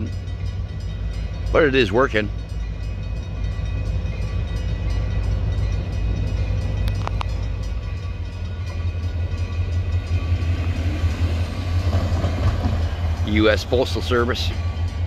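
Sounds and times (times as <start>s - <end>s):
crossing signal bell ringing: 0.0s - 15.0s
diesel locomotive rumbling: 0.0s - 15.0s.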